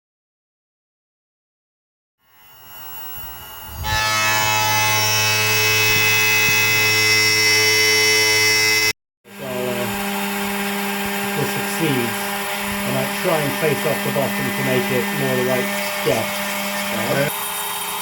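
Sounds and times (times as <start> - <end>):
machine tool motor whine: 2.3 - 18.0.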